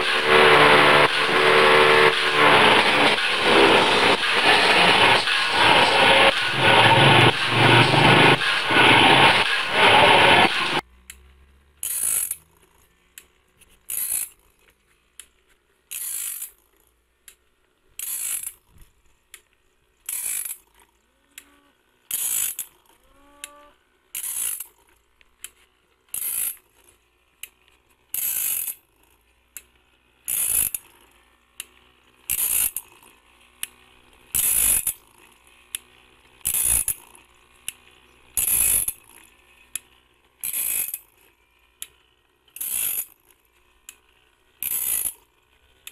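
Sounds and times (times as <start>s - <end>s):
grinding wheel on saw teeth: 0.0s - 10.8s, 11.8s - 13.0s, 13.6s - 14.9s, 15.9s - 16.9s, 18.0s - 18.7s, 20.0s - 45.9s.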